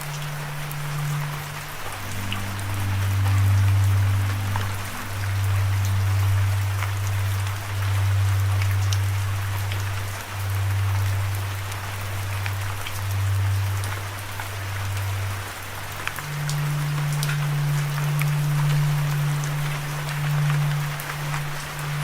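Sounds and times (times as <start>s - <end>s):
low droning tone: 0.0s - 22.0s
raindrops ticking sharply: 0.0s - 22.0s
steady rain: 0.0s - 22.0s.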